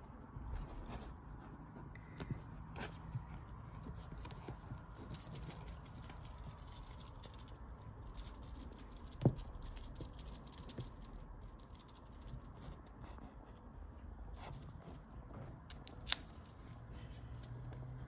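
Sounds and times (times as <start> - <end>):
soft rustling: 0.0 - 18.0
kittens' claws scratching basket: 0.5 - 13.7, 14.3 - 18.0.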